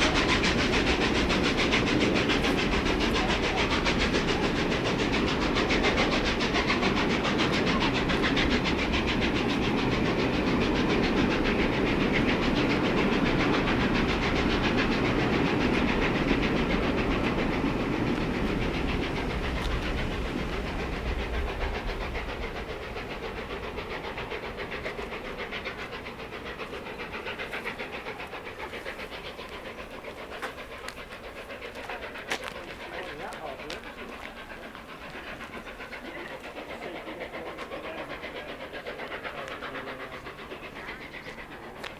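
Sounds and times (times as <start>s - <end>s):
train wheels clattering on track: 0.0s - 41.9s.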